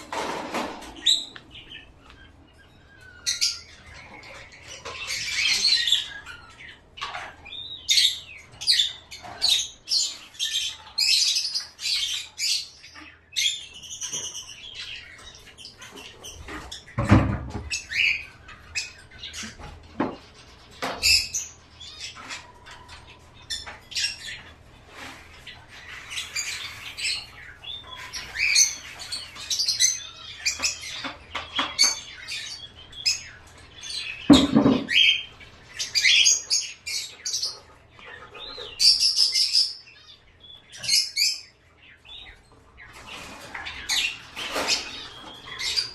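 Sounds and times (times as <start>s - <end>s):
pet birds chirping and squawking: 0.0s - 45.9s.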